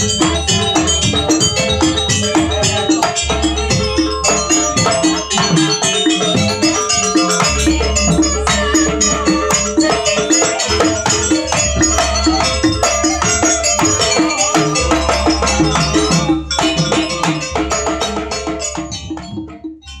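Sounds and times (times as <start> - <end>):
drums: 0.0 - 19.7
gamelan percussion ensemble: 0.0 - 20.0.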